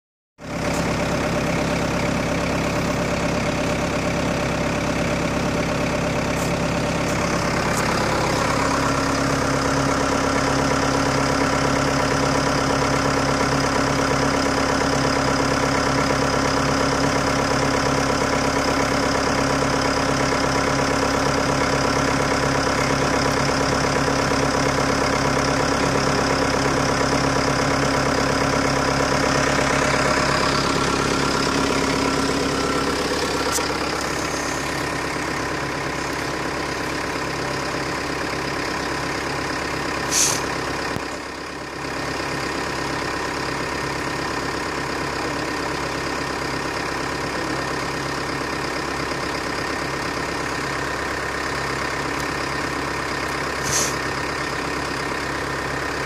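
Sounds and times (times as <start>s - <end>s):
engine idling: 0.4s - 56.0s.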